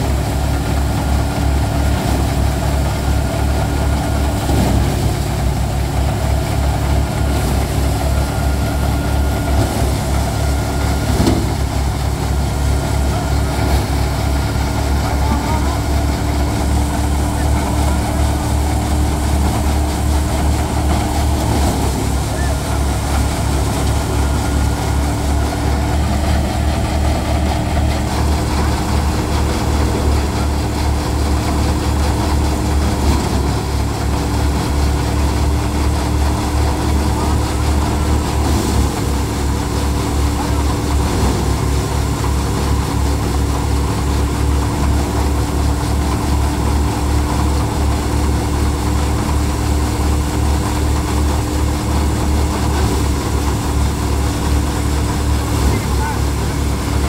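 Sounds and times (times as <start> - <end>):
thresher hum: 0.0 - 57.0
tractor engine drone: 0.0 - 57.0.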